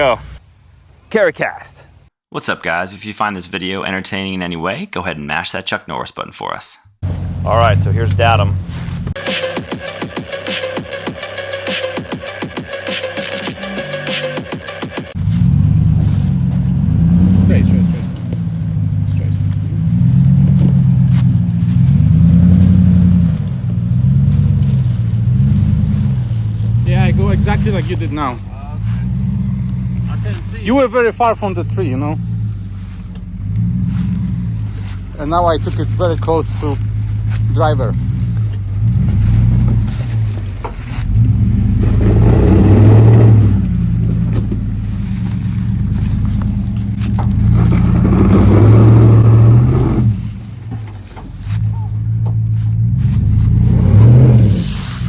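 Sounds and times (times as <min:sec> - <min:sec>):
off-road vehicle engine revving: 0:07.0 - 0:09.4, 0:12.7 - 0:55.0.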